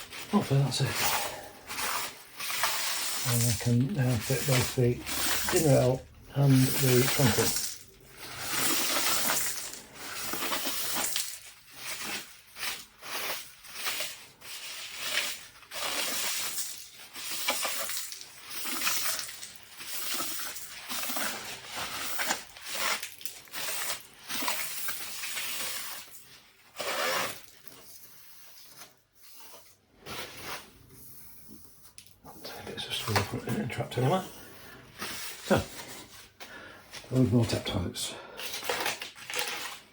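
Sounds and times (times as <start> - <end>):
plastic scraping and rubbing: 0.0 - 36.4, 38.4 - 39.9.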